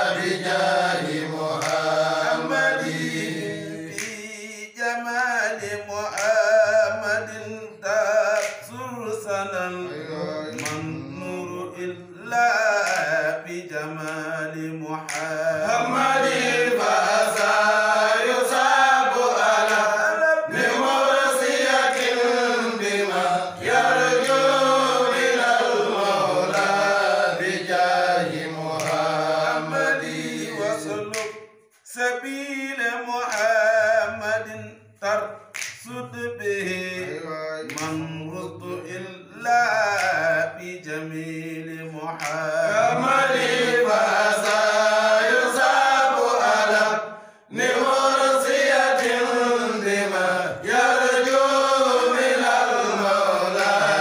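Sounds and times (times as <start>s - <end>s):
men chanting unaccompanied: 0.0s - 31.2s, 35.9s - 54.0s.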